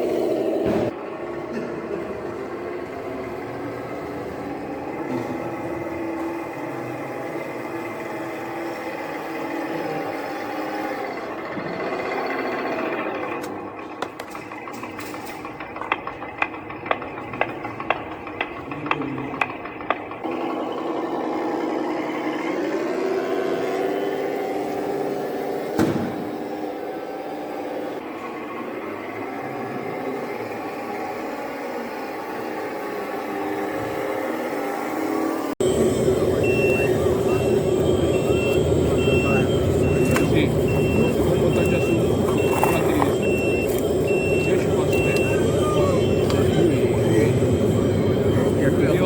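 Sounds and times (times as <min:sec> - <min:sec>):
model vehicle mechanical whine: 0:00.0 - 0:49.0.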